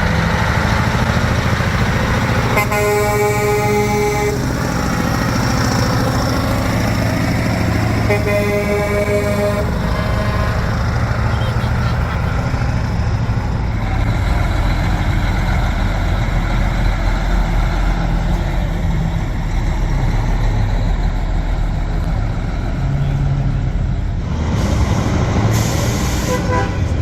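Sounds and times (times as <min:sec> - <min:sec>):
diesel truck engine: 0:00.0 - 0:27.0.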